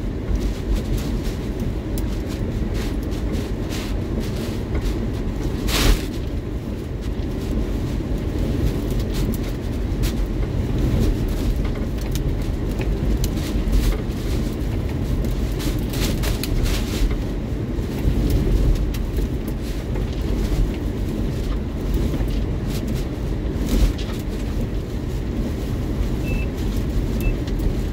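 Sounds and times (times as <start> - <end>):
rain lashing a windshield: 0.0 - 27.9
wind buffeting a car: 0.0 - 27.9.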